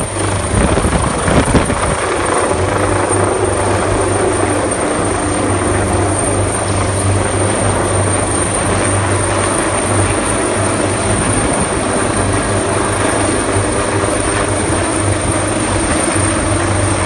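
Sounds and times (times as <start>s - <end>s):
helicopter hovering overhead: 0.0s - 17.0s.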